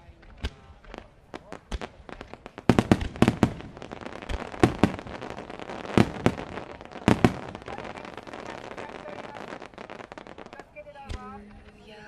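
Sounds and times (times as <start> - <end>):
firework crackling: 0.0 - 12.0
firework shells bursting: 0.2 - 11.8.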